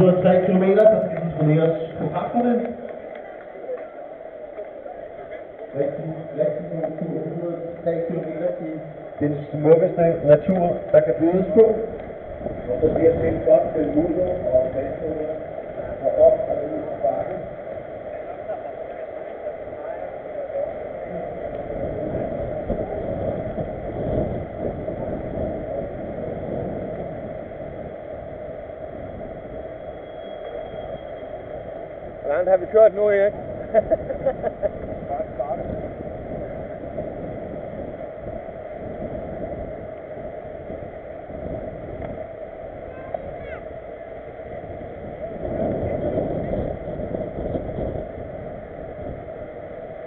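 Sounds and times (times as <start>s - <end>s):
bike tyres rolling on pavement: 0.0s - 50.0s
wind buffeting microphone: 0.0s - 50.0s.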